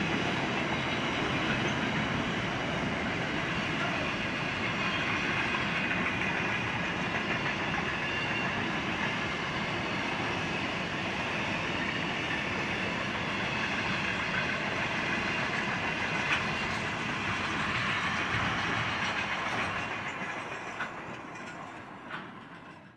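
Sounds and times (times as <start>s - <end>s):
freight train rolling on rails: 0.0s - 22.9s.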